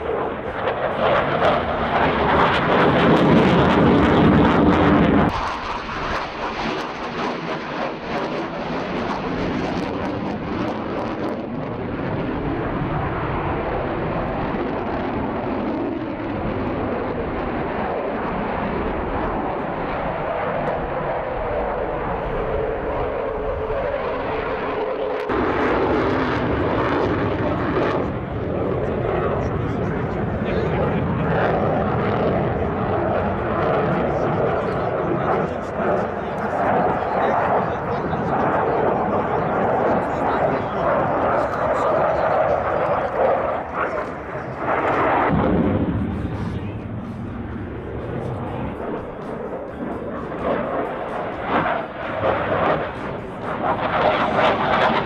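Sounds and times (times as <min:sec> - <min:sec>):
fighter jet flyby: 0:00.0 - 0:55.0.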